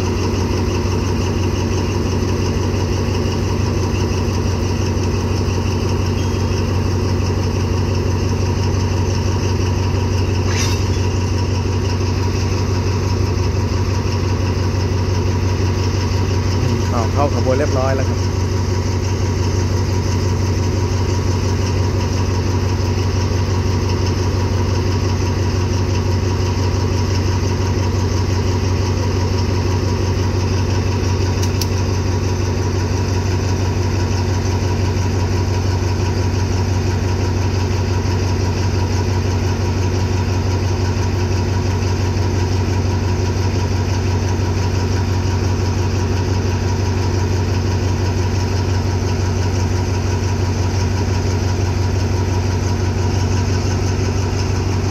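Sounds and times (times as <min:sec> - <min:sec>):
locomotive engine idling: 0:00.0 - 0:54.9.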